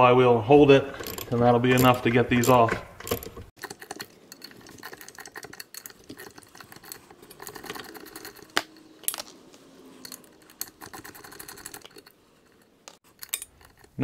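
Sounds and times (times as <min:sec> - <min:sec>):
wrench clicking and clinking: 0:00.9 - 0:09.3, 0:10.0 - 0:14.0.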